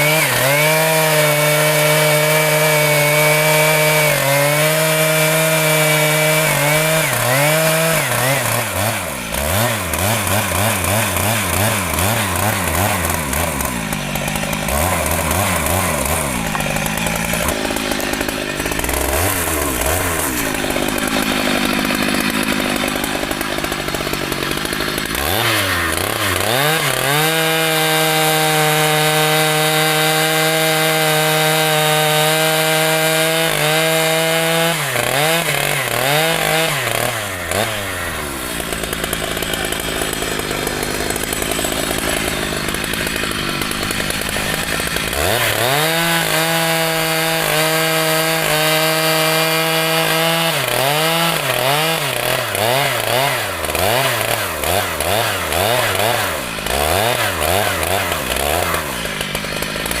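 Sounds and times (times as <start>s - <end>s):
chainsaw engine revving: 0.0s - 60.0s.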